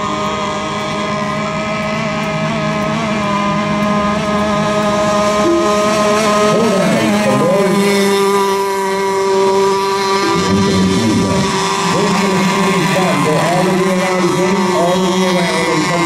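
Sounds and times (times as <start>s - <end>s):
model boat engines revving high: 0.0s - 16.0s.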